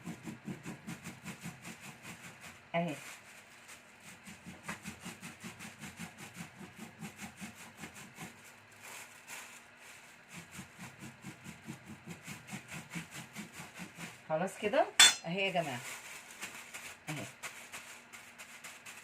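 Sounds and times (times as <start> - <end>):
blade chopping leaves: 0.0 - 19.0.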